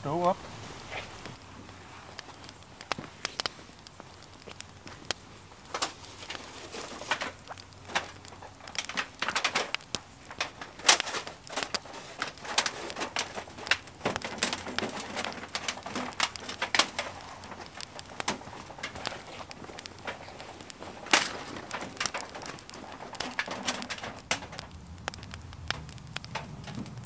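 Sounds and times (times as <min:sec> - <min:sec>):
campfire crackling and popping: 0:00.0 - 0:27.0
rustling and light knocks: 0:00.8 - 0:27.0.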